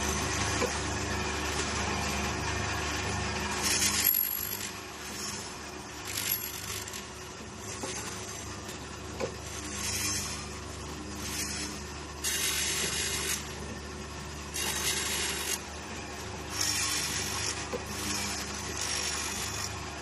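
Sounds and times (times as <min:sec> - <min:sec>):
grinding machine humming: 0:00.0 - 0:20.0
grinding wheel rasping on blade: 0:00.0 - 0:20.0.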